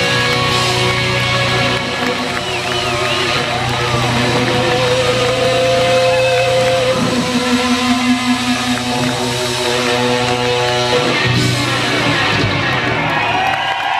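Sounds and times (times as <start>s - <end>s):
live rock band playing: 0.0s - 13.7s.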